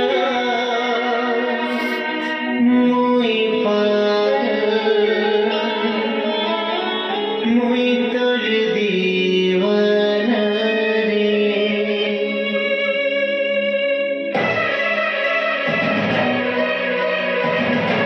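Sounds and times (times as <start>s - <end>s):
person singing: 0.0s - 14.8s
indian-style melody over drone: 0.0s - 18.0s.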